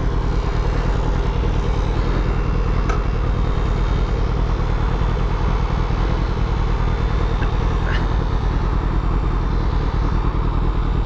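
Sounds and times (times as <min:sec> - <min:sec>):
motorcycle engine: 0:00.0 - 0:11.0.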